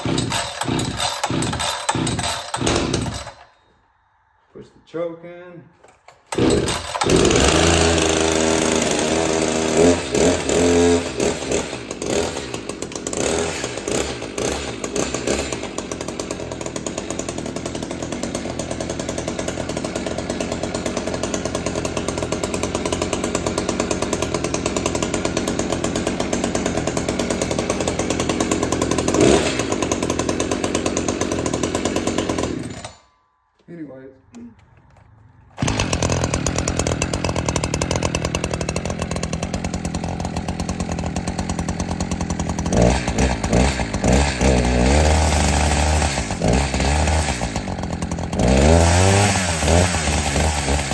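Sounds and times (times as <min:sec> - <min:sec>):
chainsaw engine running: 0:00.0 - 0:03.6, 0:06.1 - 0:33.1, 0:34.9 - 0:50.9.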